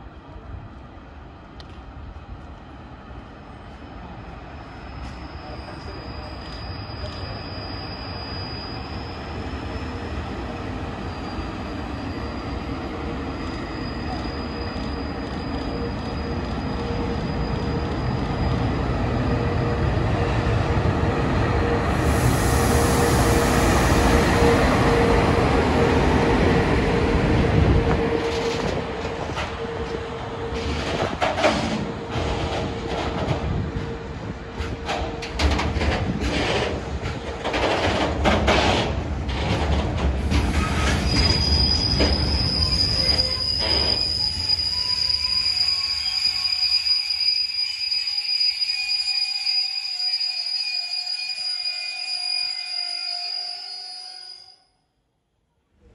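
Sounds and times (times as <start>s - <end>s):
train low rumble: 0.0s - 46.1s.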